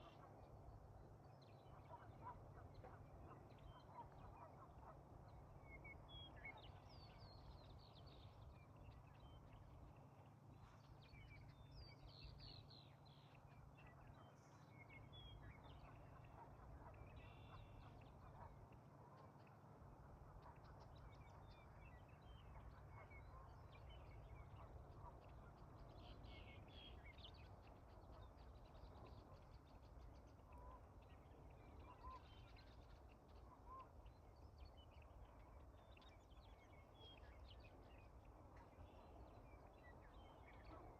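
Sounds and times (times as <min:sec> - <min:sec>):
faint birds chirping: 0:00.0 - 0:40.9.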